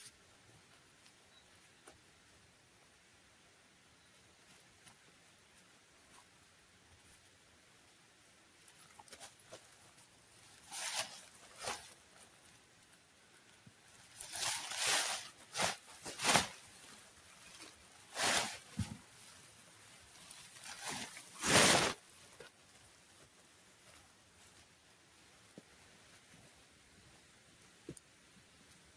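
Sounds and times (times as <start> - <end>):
camping gear rustling and scraping: 4.0 - 28.9.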